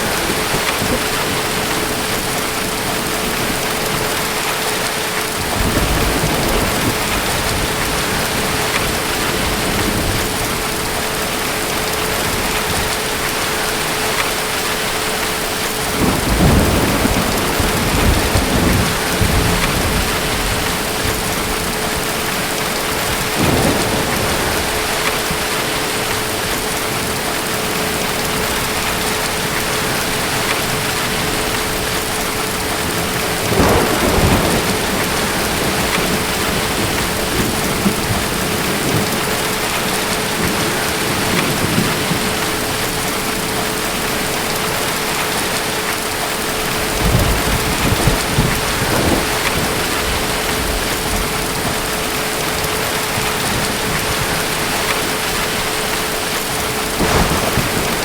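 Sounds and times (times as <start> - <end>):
distant thunder rumbling: 0.0 - 58.0
heavy rain: 0.0 - 58.0.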